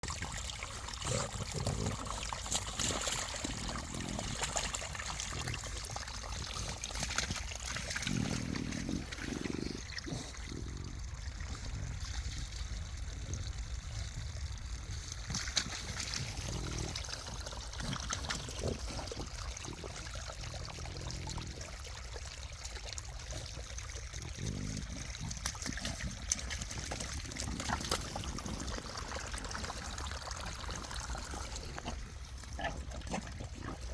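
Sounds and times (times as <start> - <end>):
rainwater trickling and splashing: 0.0 - 33.9.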